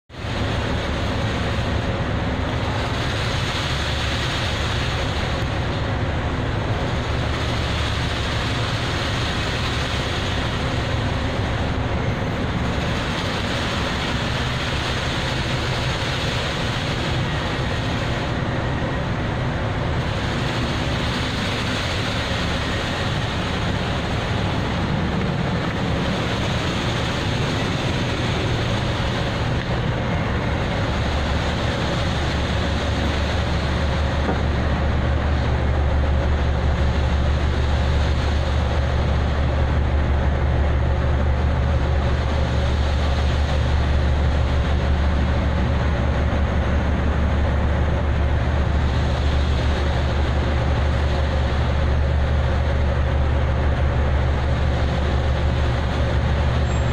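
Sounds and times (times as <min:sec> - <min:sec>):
rough sea: 0:00.0 - 0:56.9
ship machinery hum: 0:00.0 - 0:56.9.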